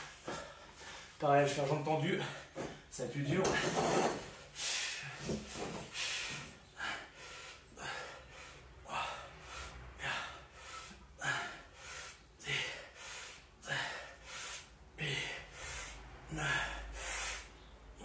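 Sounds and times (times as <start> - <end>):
man breathing hard: 0.0 - 1.2, 4.2 - 18.0.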